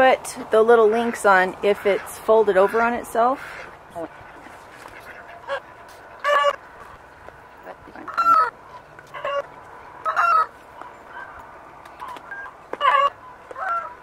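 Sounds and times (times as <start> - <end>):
chickens squawking: 0.8 - 14.0.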